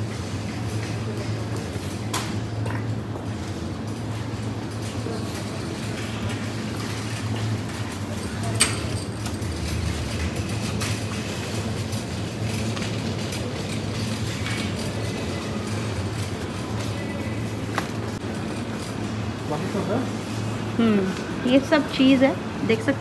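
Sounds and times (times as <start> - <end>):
refrigeration and ventilation hum: 0.0 - 23.0.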